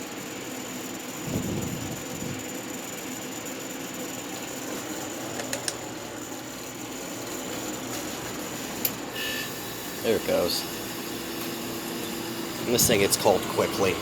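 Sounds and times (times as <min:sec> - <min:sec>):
dehumidifier fan humming: 0:00.0 - 0:14.0.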